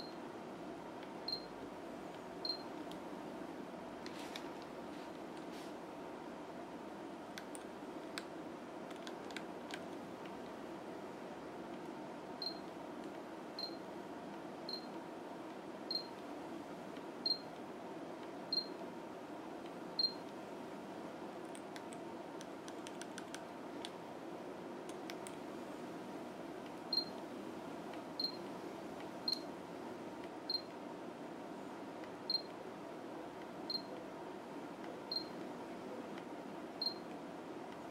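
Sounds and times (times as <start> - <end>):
steady low hiss: 0.0 - 37.9.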